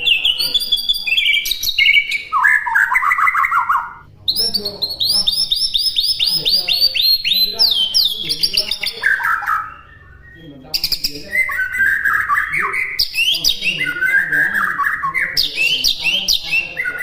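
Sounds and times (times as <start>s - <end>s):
songbird whistles and chirps: 0.0s - 17.0s.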